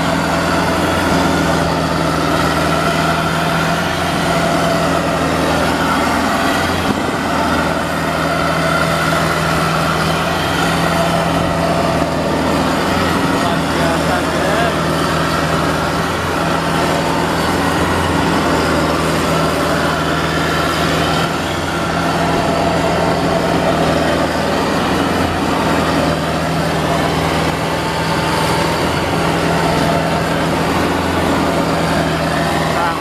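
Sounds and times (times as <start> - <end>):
combine harvester engine drone: 0.0 - 33.0.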